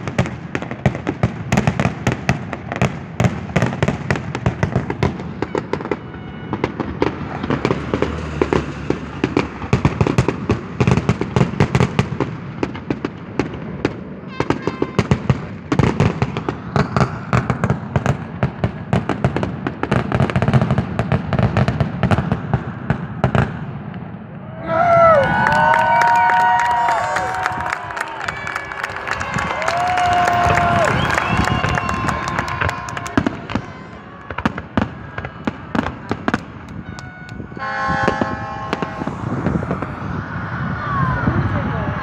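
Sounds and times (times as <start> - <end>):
fireworks bursts and crackling: 0.0 - 24.3, 25.1 - 42.0.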